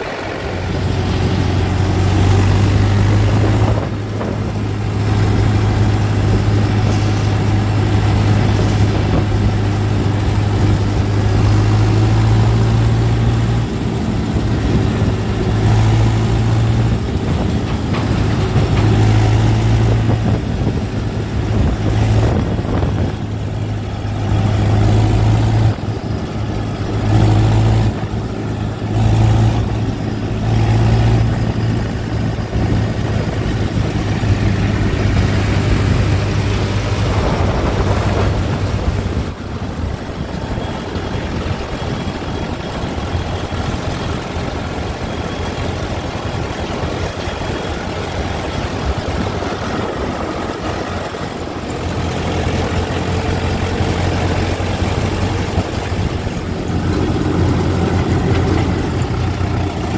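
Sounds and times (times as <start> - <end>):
tractor diesel engine drone: 0.0 - 59.9.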